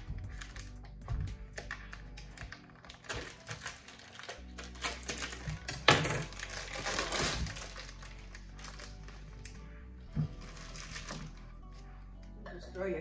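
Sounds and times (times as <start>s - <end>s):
rustling: 0.2s - 11.9s.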